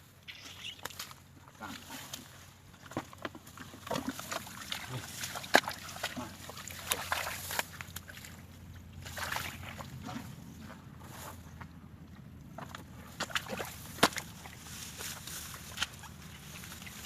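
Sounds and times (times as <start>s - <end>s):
water splashing and sloshing: 0.2s - 17.0s.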